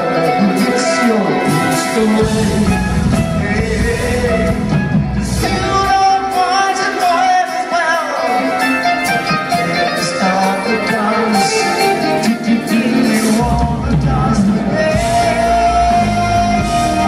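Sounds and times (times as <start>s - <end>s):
lead electric guitar with bends: 0.0s - 17.0s
live rock band playing: 0.0s - 17.0s.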